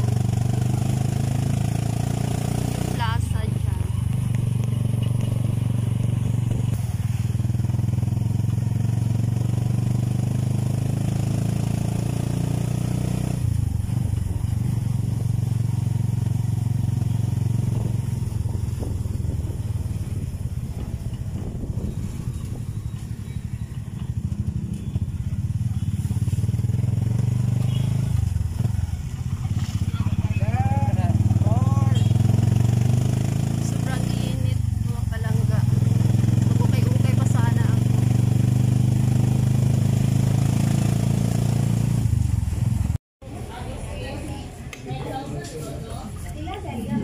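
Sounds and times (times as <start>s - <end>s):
motorcycle engine droning: 0.0s - 44.0s.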